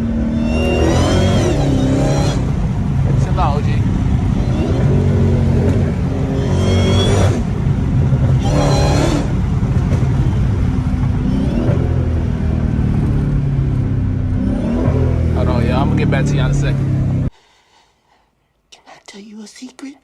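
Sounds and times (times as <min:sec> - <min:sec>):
car engine running: 0:00.0 - 0:17.3.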